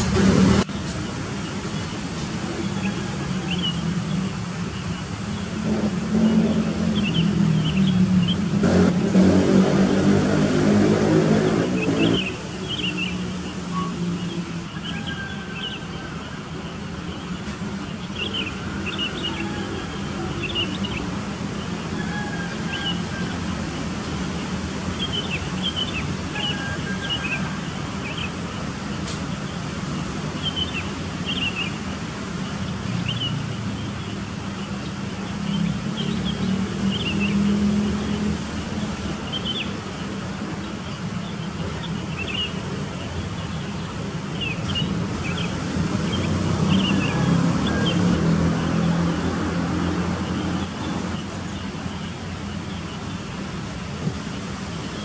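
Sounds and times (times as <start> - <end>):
low rumble of motor traffic: 0.0 - 55.0.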